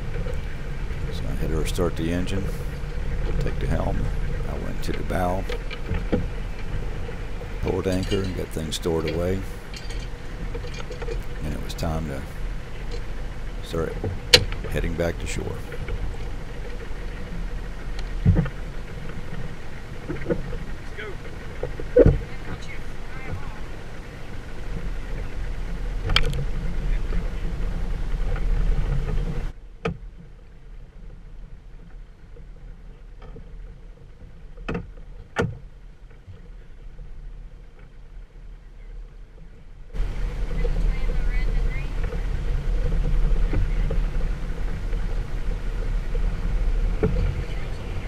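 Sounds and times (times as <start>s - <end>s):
motorboat engine rumble: 0.0s - 48.0s.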